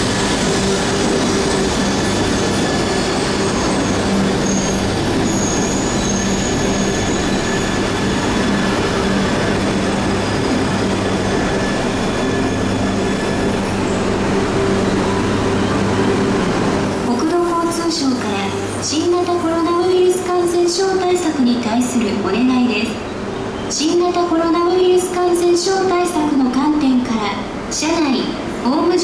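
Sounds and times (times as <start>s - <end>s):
train wheels rumbling: 0.0s - 23.4s.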